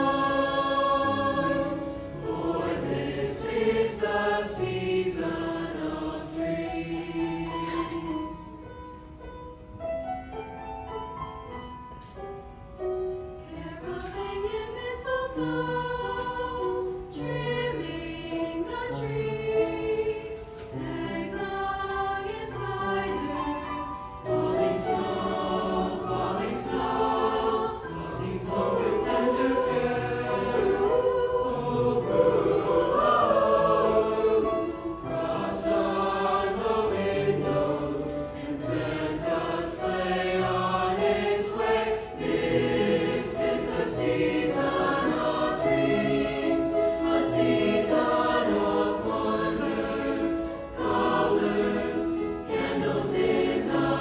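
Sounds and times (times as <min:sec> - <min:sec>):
choir singing in harmony: 0:00.0 - 0:11.8, 0:12.4 - 0:54.0.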